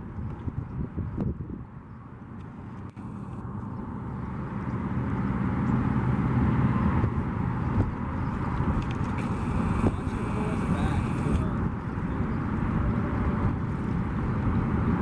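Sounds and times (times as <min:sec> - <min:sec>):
boat motor humming: 0:02.0 - 0:14.6.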